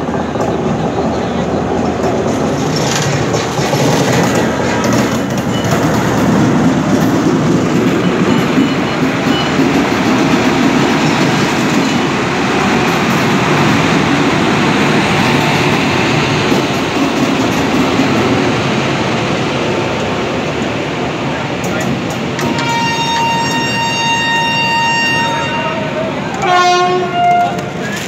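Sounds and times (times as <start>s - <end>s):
wheels clickety-clack on rails: 0.0s - 25.2s, 26.2s - 28.0s
electric locomotive running: 0.0s - 28.0s.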